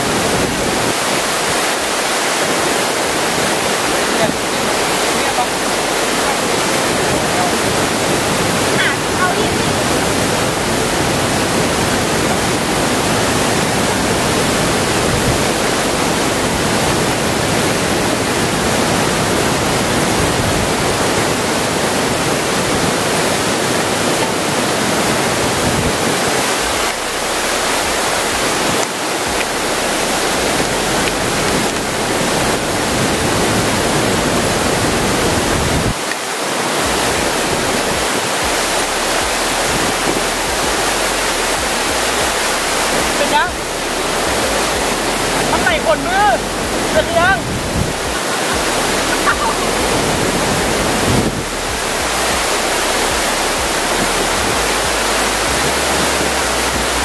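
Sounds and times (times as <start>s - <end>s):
waterfall pouring onto rocks: 0.0s - 57.0s.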